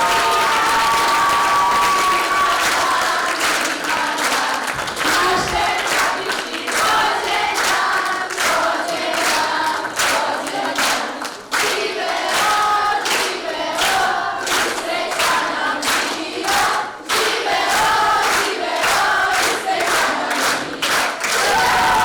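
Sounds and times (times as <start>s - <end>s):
many voices singing: 0.0s - 22.0s.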